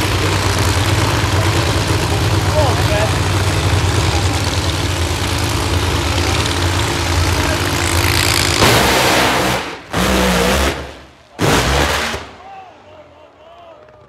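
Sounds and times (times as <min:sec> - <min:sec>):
drag racing engine idling: 0:00.0 - 0:12.4.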